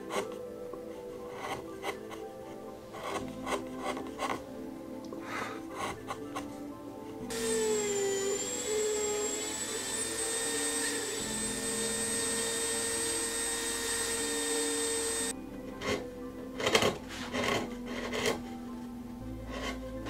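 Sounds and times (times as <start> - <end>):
rotary tool whining: 0.0 - 4.5, 5.2 - 20.0.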